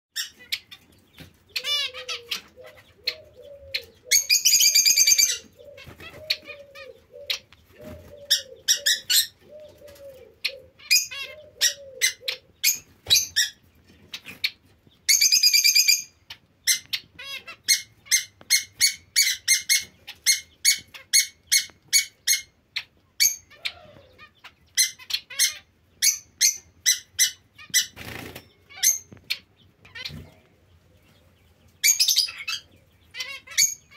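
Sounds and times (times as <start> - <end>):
buzzy bird phrases: 0.2 - 33.9.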